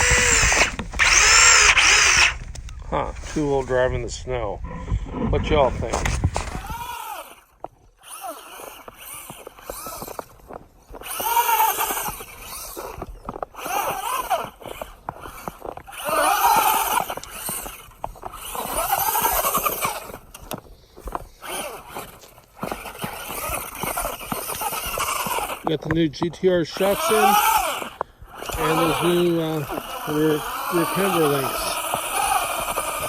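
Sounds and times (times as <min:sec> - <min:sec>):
electric motor whining: 0:00.0 - 0:03.6, 0:04.6 - 0:33.0
tyres churning through snow: 0:00.0 - 0:33.0.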